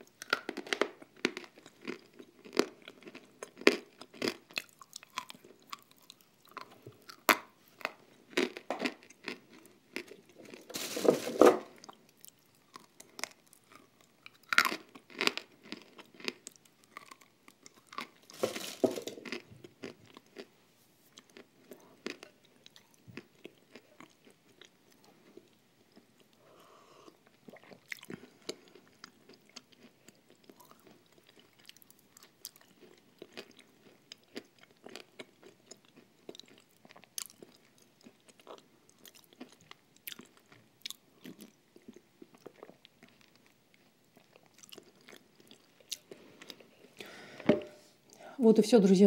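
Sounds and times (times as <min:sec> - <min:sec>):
chewing: 0:00.0 - 0:10.9, 0:11.6 - 0:20.5, 0:21.1 - 0:47.1.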